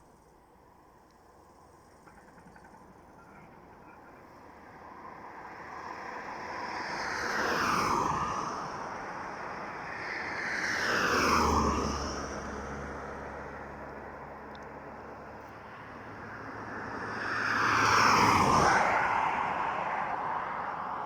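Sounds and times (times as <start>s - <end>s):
vehicles passing by: 0.4s - 21.0s.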